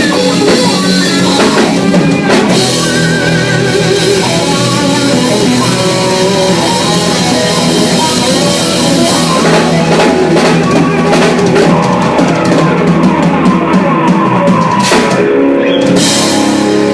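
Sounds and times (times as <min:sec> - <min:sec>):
drums and cymbals: 0:00.0 - 0:16.9
guitar: 0:00.0 - 0:16.9
loud rock music: 0:00.0 - 0:16.9.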